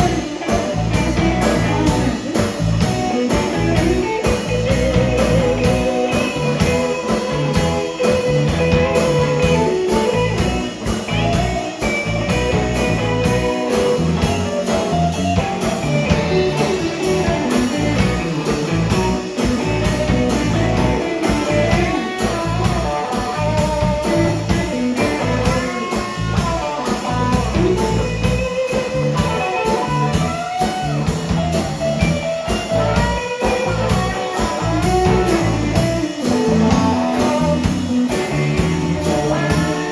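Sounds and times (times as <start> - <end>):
drum kit beat: 0.0 - 39.9
lead guitar solo: 0.0 - 39.9.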